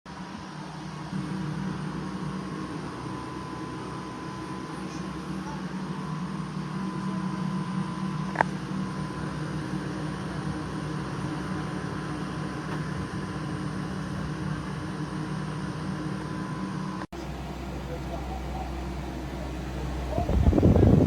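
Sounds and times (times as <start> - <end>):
air conditioner fan and compressor hum: 0.1 - 21.0.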